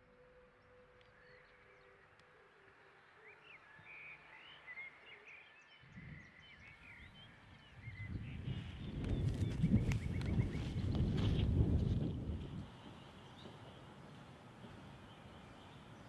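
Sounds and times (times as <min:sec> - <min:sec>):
small birds chirping: 0:00.6 - 0:16.0.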